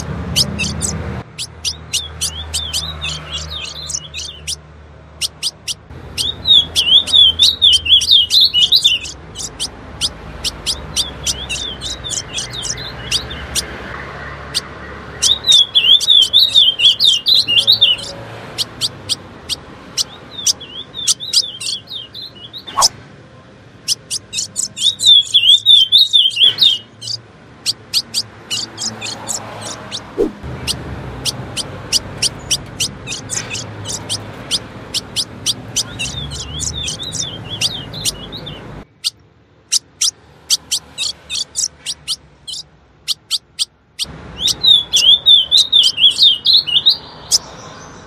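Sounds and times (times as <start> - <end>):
bird twittering: 0.0 - 4.6, 5.2 - 13.8, 14.5 - 22.9, 23.8 - 47.5.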